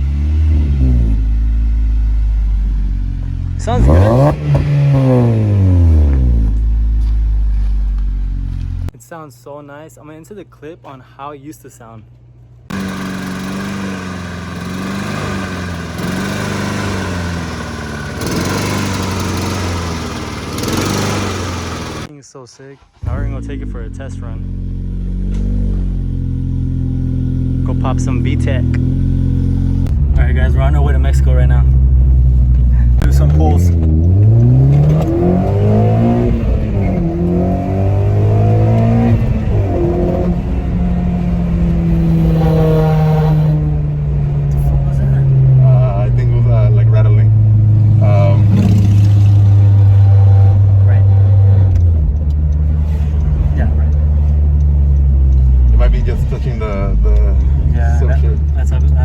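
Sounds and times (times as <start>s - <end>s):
car engine exhaust running: 0.0s - 9.0s, 12.7s - 22.1s, 23.1s - 59.0s.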